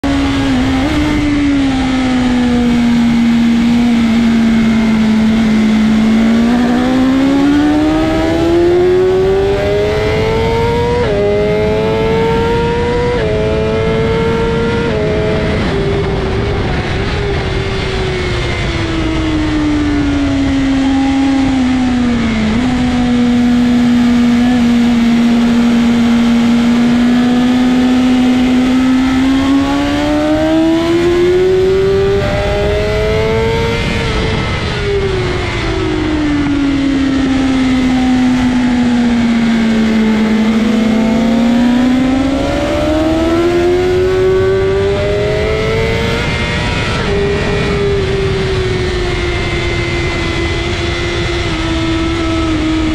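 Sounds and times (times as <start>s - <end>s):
motorcycle engine revving with upshifts: 0.0s - 52.9s
wind rush: 0.0s - 52.9s.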